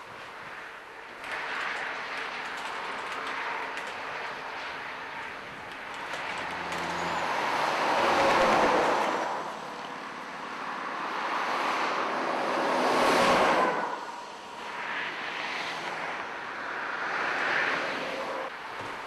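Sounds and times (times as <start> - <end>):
heavy trucks passing: 0.0 - 19.0.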